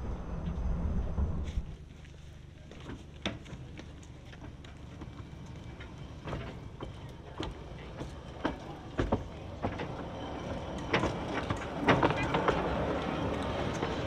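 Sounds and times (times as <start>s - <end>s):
low rumble of locomotive: 0.0s - 14.0s
train wheels clicking over rail joints: 1.4s - 14.0s.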